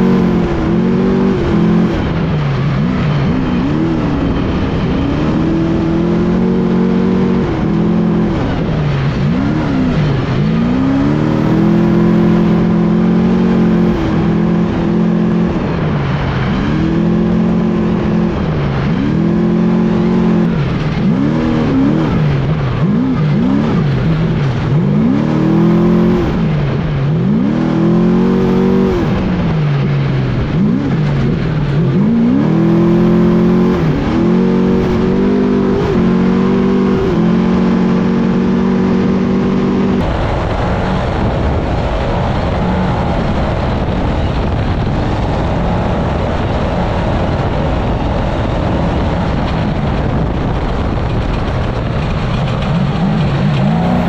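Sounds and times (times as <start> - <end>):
truck engine revving: 0.0 - 54.0
wind and road noise: 0.0 - 54.0.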